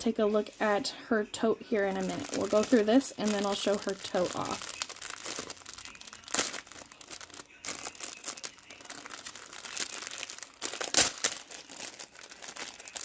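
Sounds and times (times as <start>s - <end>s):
cellophane bag crinkling: 1.8s - 13.0s.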